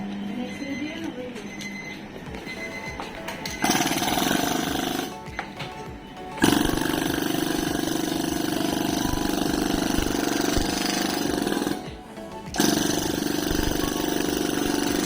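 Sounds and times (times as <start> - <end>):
percussion massager hammering: 2.3 - 15.0.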